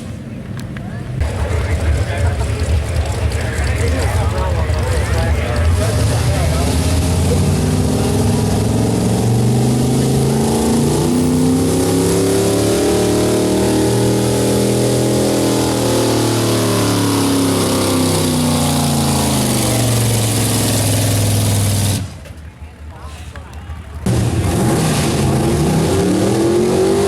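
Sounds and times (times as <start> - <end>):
truck engine running under load: 0.0 - 26.8.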